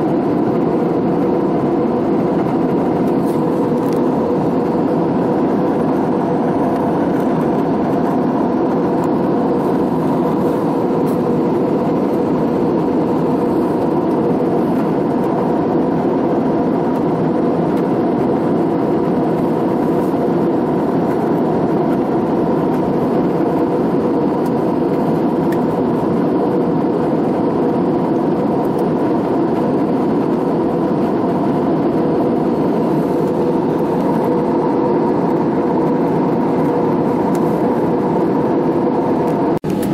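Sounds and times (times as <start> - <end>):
airliner cabin engine rush: 0.0 - 39.9
constant hum-like tone: 0.0 - 39.9.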